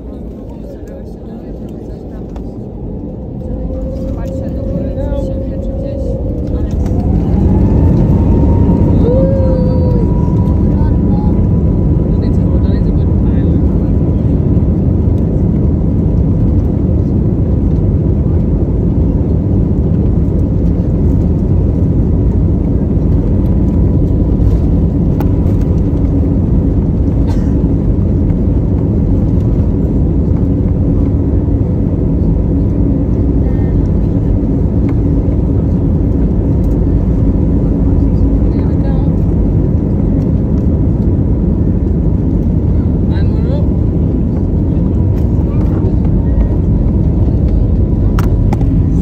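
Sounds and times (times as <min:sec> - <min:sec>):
airliner engines rumbling: 0:00.0 - 0:49.0.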